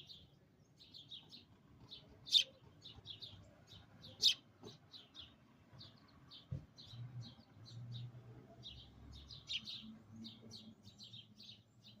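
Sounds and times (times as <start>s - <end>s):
sparrow chirping: 0.0s - 12.0s.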